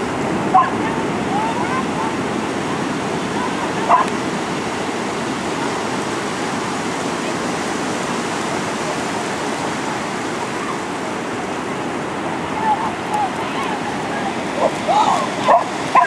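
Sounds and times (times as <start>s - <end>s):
breaking surf: 0.0s - 16.0s.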